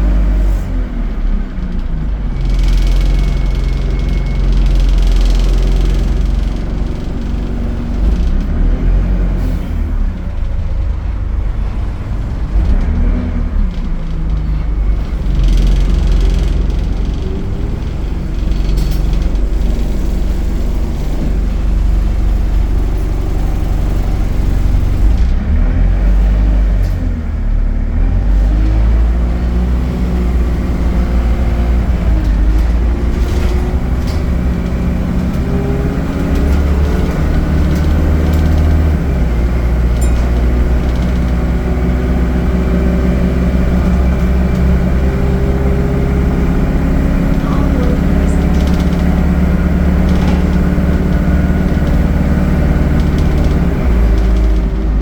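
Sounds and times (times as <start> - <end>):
bus diesel engine pulling away: 0.0 - 55.0.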